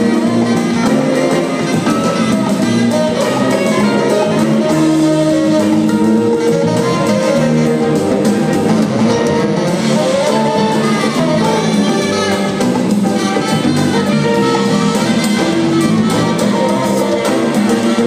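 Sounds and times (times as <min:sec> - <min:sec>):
congas: 0:00.0 - 0:18.0
drum kit: 0:00.0 - 0:18.0
electric bass: 0:00.0 - 0:18.0
horns holding long notes: 0:00.0 - 0:18.0.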